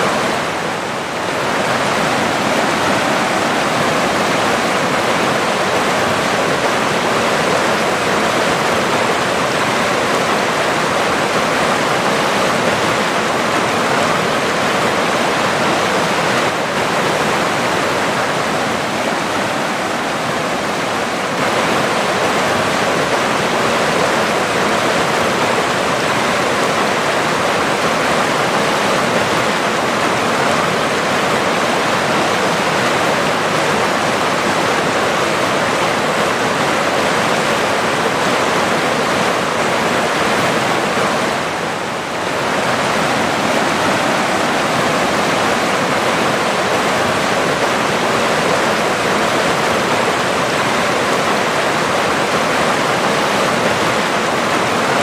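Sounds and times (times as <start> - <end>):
river flowing fast: 0.0 - 55.0.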